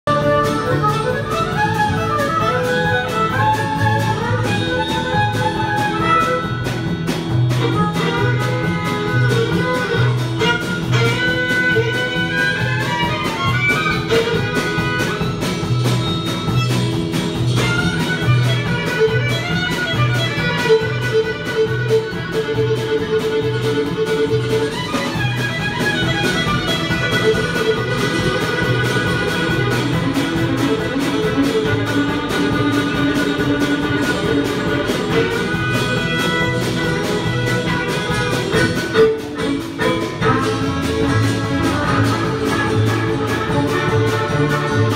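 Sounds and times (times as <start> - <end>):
fiddles playing lively tune: 0.0 - 44.9
low bass beat: 0.0 - 44.9.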